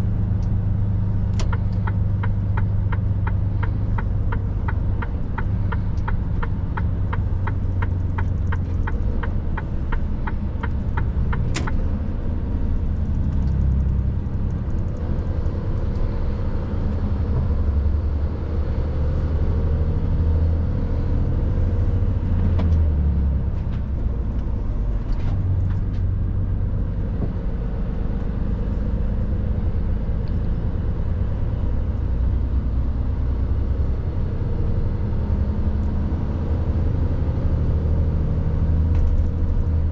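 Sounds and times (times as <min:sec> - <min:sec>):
truck diesel engine rumble: 0:00.0 - 0:39.9.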